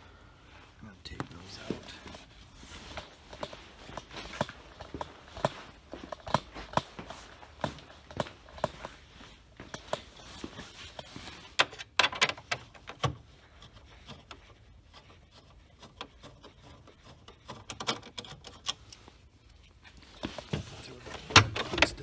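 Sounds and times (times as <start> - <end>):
hand tools clicking and knocking: 1.2 - 9.0, 9.6 - 19.0, 20.0 - 22.0.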